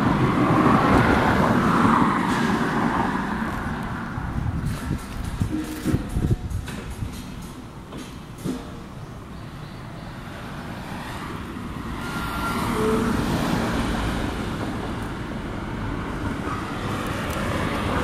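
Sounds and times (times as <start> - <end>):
road traffic: 0.0 - 18.0
vehicles passing: 0.0 - 18.0.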